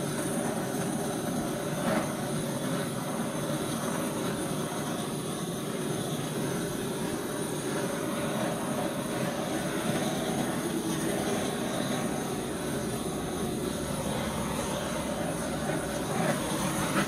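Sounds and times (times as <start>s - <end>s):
butane torch flame hissing: 0.0s - 17.0s.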